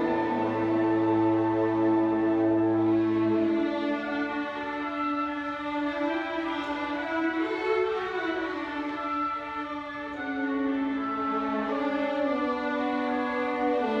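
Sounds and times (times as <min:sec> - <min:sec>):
orchestral strings playing: 0:00.0 - 0:14.0.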